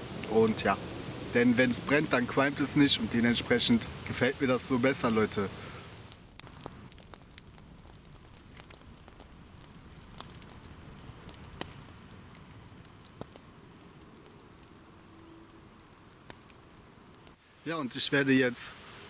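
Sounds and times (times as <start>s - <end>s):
campfire crackling and popping: 0.0s - 17.4s
low hiss of burning wood: 0.0s - 19.0s.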